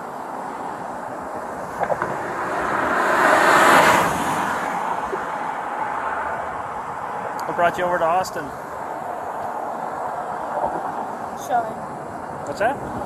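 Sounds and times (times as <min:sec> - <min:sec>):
traffic noise: 0:00.0 - 0:13.0
vehicle passing at speed: 0:00.2 - 0:13.0.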